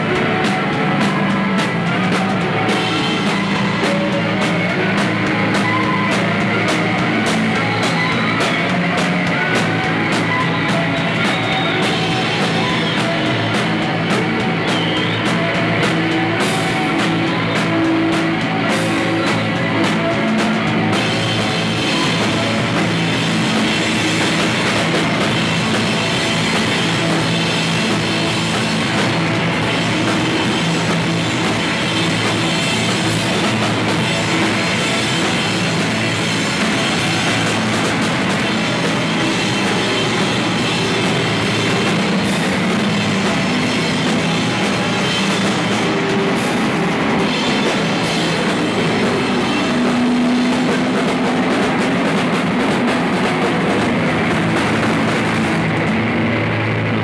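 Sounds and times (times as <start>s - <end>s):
drum kit with cymbals: 0.0s - 57.0s
electric guitars with effects: 0.0s - 57.0s.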